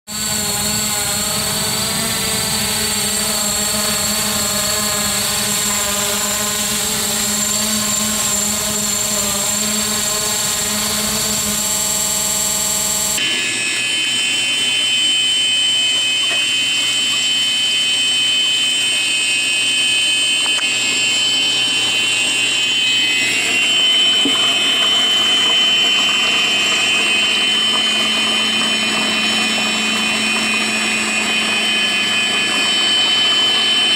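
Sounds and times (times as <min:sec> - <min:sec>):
drone propellers whining: 0:00.1 - 0:33.9.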